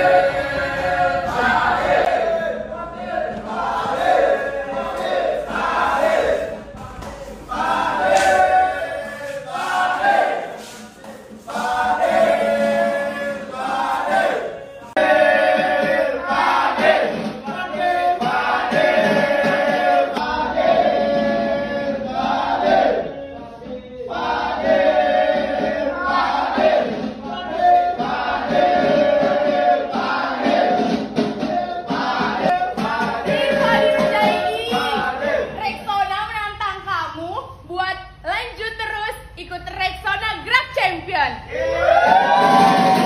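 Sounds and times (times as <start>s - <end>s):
group singing and chanting in unison: 0.0s - 35.9s.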